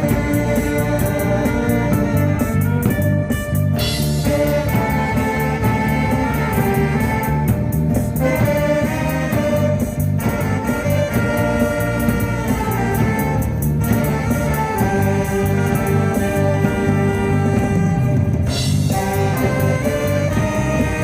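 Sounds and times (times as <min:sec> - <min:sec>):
repeating bass line: 0:00.0 - 0:21.0.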